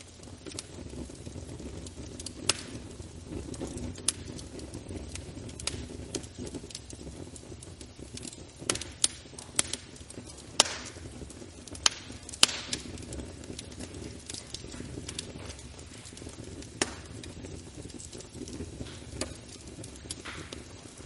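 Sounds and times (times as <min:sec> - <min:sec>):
fire flames rumbling: 0:00.0 - 0:21.0
wood fire crackling and popping: 0:00.0 - 0:21.0.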